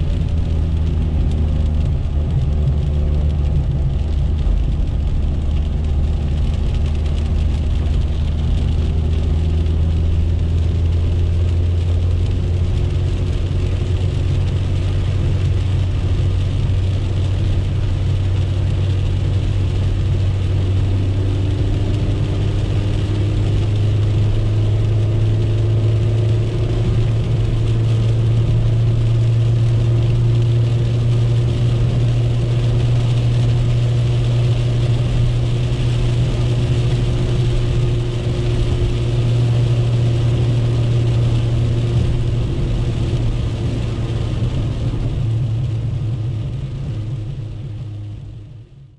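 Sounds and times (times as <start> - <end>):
car engine droning: 0.0 - 48.9
heavy rain and wet tyres: 0.0 - 48.9.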